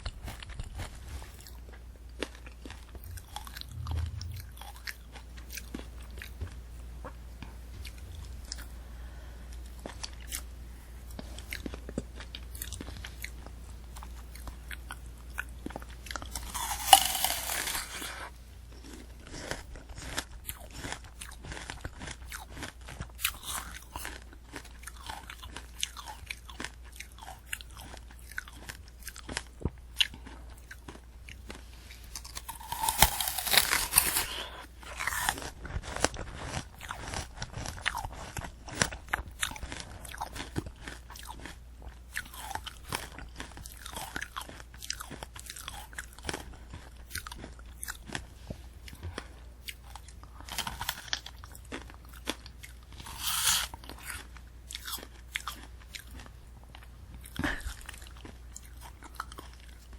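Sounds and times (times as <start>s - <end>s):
crunching bites and chewing: 0.0s - 7.2s, 9.5s - 10.5s, 11.1s - 59.9s.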